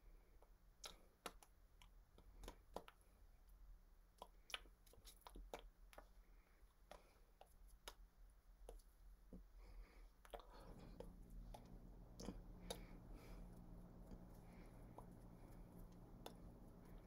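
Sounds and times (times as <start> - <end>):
low steady hum: 0.0 - 17.0
hands clicking and tapping: 0.4 - 3.0, 4.1 - 6.1, 6.8 - 9.4, 10.2 - 17.0.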